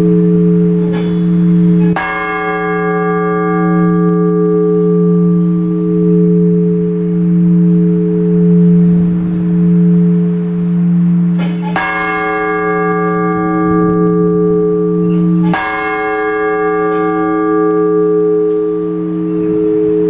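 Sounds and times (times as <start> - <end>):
large church bell ringing: 0.0 - 20.0.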